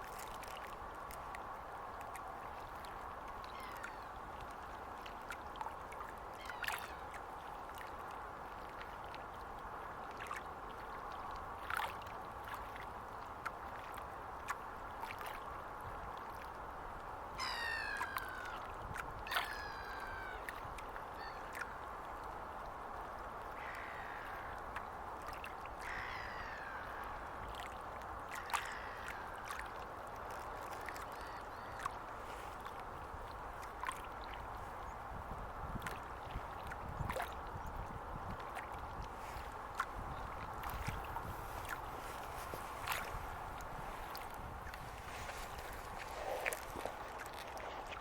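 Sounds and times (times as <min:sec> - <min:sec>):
small waves lapping at shore: 0:00.0 - 0:48.0.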